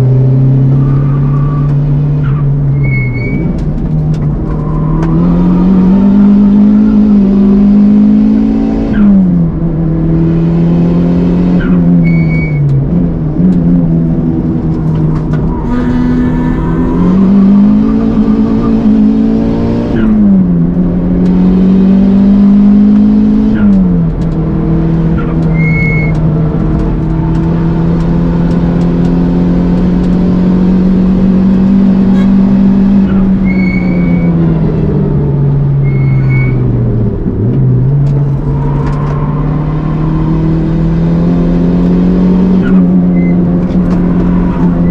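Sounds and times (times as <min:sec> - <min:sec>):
car engine revving through gears: 0:00.0 - 0:44.9.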